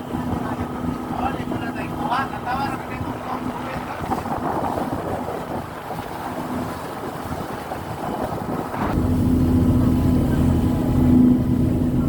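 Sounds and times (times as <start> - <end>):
low engine hum: 0.0 - 12.0
water noise: 0.0 - 12.0
wind buffeting microphone: 0.0 - 12.0.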